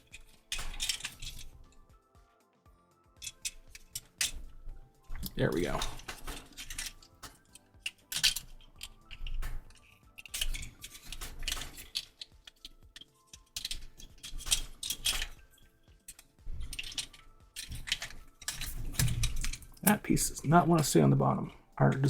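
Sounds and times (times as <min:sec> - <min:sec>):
plastic parts clicking and rattling: 0:00.0 - 0:01.9, 0:03.2 - 0:22.0
faint background music: 0:00.0 - 0:22.0.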